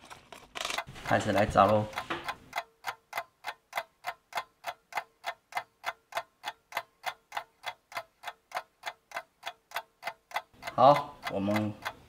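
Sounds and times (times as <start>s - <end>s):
clock-like ticking: 0.8s - 12.0s.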